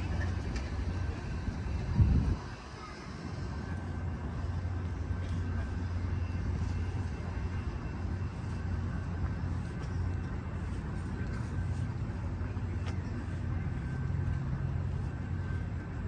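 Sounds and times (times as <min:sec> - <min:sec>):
diesel locomotive drone: 0:00.0 - 0:16.0.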